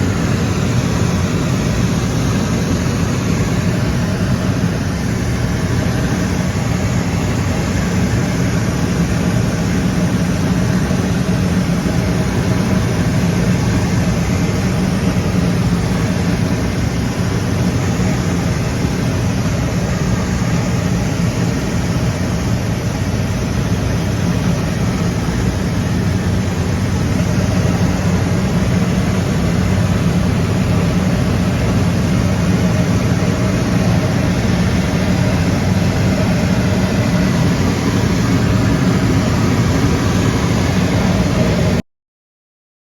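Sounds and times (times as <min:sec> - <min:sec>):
airliner engines droning: 0:00.0 - 0:41.8
rushing air: 0:00.0 - 0:41.8.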